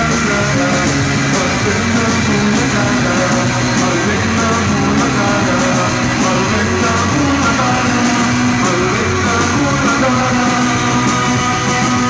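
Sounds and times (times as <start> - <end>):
drums keeping a steady beat: 0.0 - 12.0
electric guitar: 0.0 - 12.0.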